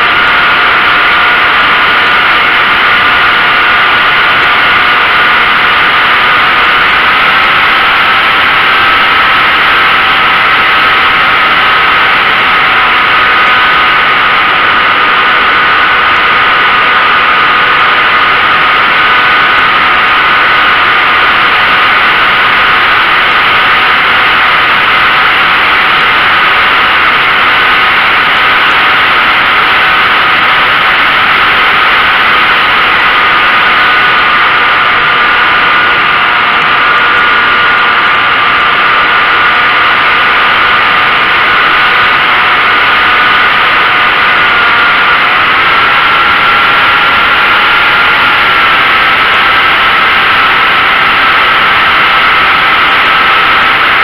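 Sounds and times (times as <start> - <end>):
model airplane motor whine: 0.0 - 54.0.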